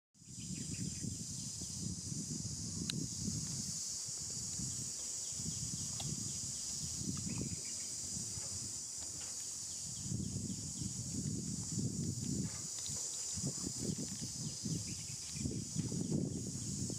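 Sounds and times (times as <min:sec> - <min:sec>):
insects droning: 0:00.2 - 0:16.9.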